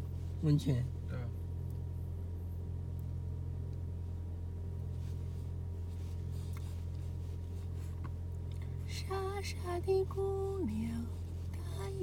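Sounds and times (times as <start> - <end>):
car engine and tyres droning: 0.0 - 12.0.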